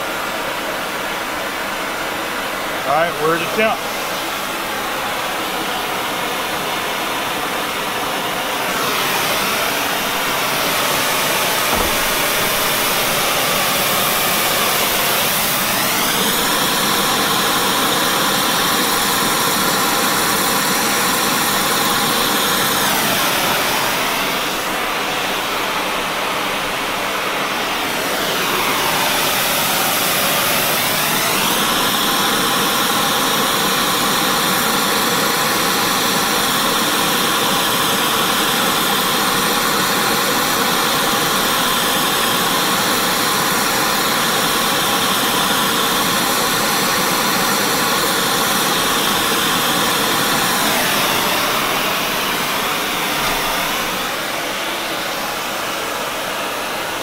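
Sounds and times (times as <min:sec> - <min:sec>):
flame spray torch hissing: 0:02.8 - 0:57.0.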